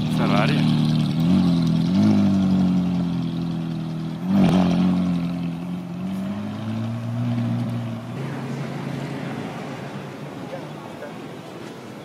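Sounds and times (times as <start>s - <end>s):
car engine at low revs: 0.0s - 12.0s.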